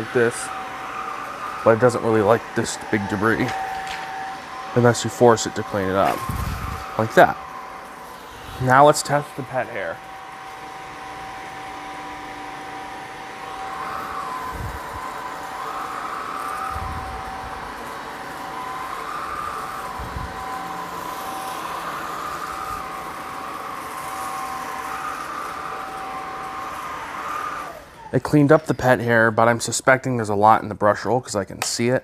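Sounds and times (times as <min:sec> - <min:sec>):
vacuum cleaner whining on carpet: 0:00.0 - 0:31.1.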